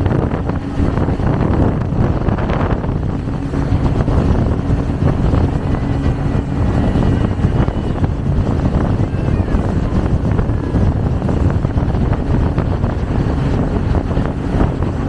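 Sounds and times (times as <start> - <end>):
speedboat engine: 0.0 - 15.0
wake rushing: 0.0 - 15.0
wind buffeting microphone: 0.0 - 15.0.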